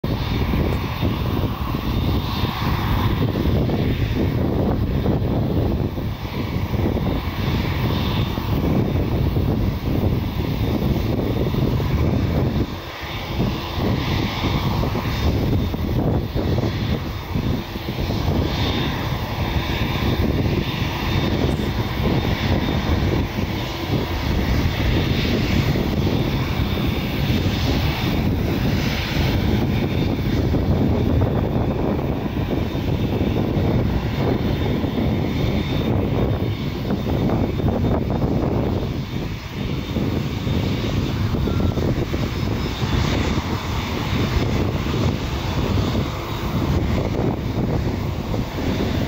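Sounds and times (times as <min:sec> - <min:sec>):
jet engines rumbling: 0:00.0 - 0:49.0.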